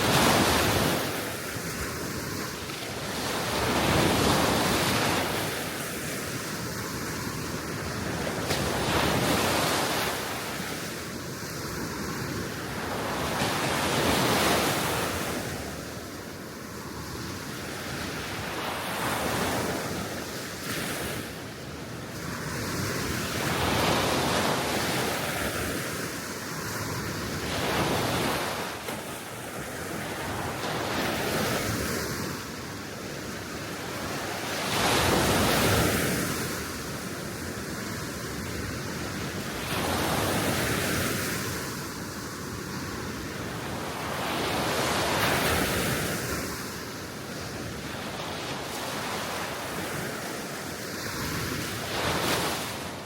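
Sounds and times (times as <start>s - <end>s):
small waves breaking on shore: 0.0s - 53.0s
wind: 0.0s - 53.0s.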